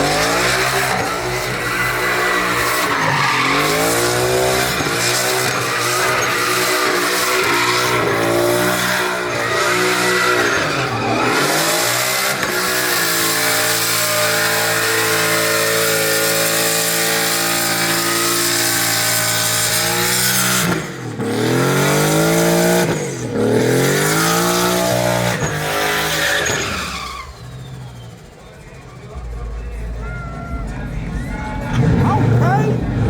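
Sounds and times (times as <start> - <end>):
truck engine revving high: 0.0 - 33.0.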